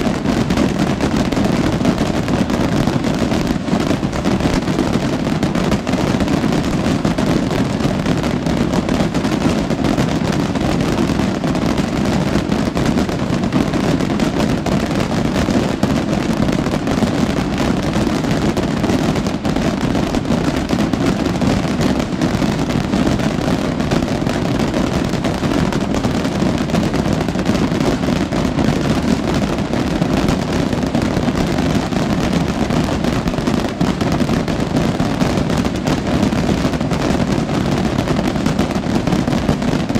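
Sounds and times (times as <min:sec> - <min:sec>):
fireworks barrage crackling: 0:00.0 - 0:39.9.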